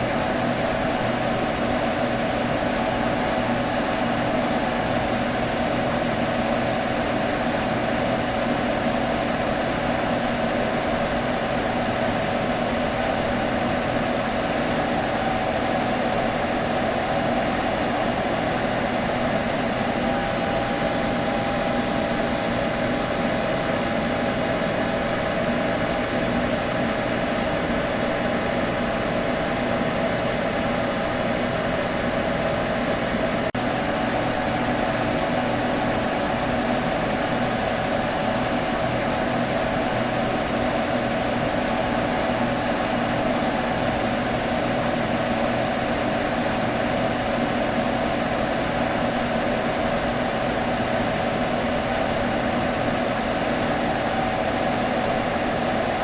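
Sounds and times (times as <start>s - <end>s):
computer fans humming: 0.0s - 56.0s.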